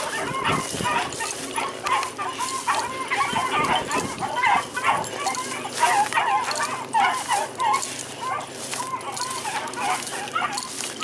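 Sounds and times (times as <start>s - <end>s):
hounds baying: 0.0s - 11.0s.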